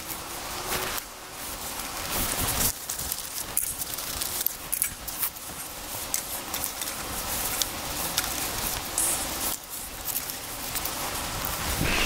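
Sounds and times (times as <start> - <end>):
wood fire hissing and crackling: 0.0 - 12.0.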